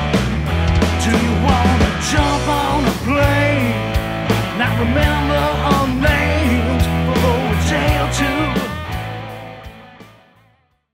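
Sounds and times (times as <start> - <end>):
electric guitar bending notes: 0.0 - 10.6
rock band playing: 0.0 - 10.7.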